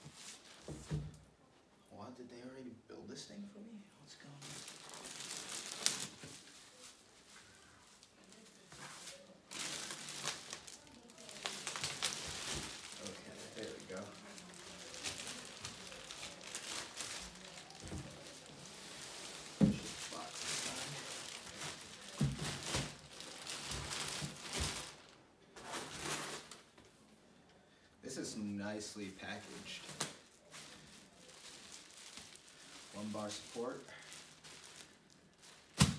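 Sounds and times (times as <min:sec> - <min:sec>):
packaging rustling and crinkling: 0:04.2 - 0:26.7, 0:29.2 - 0:35.9.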